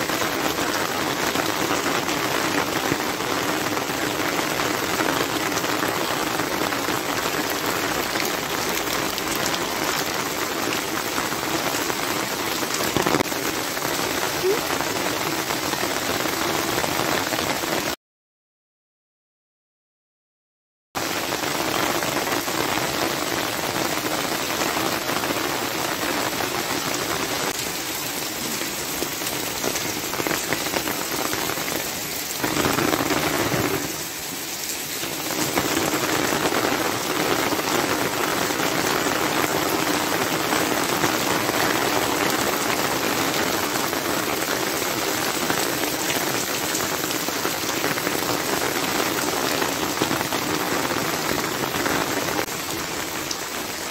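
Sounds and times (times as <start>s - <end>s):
heavy rain on pavement: 0.0s - 18.0s, 21.0s - 53.9s.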